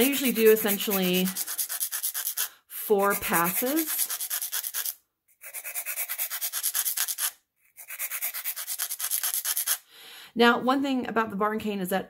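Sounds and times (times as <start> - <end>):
file scraping cane: 0.0 - 9.8.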